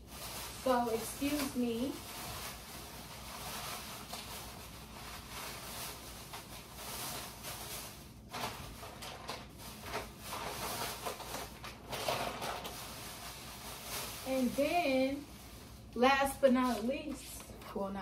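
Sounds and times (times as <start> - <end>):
grocery packages rustling: 0.0 - 18.0.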